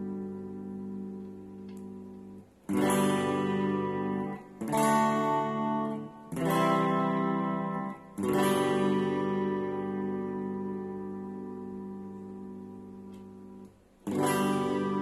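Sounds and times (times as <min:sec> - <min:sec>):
electric guitar strumming chords: 0:00.0 - 0:15.0.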